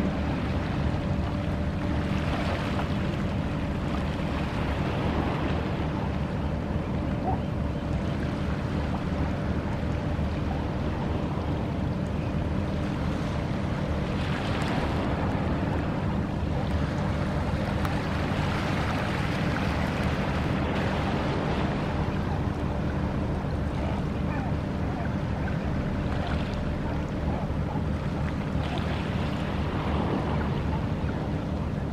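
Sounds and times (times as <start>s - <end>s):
water noise: 0.0s - 31.9s
wind: 0.0s - 31.9s.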